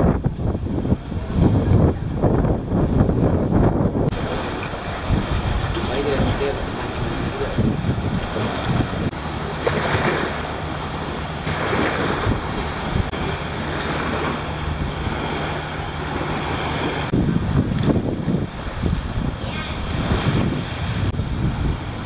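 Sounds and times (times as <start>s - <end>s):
sea waves washing in: 0.0s - 22.0s
wind buffeting microphone: 0.0s - 22.0s.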